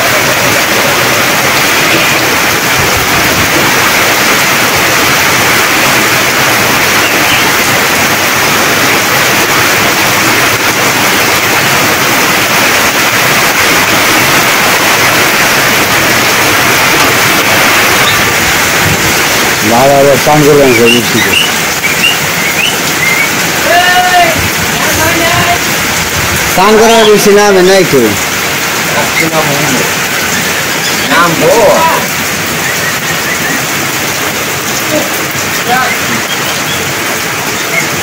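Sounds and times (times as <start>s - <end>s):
heavy rain on tin roofs: 0.0s - 38.0s.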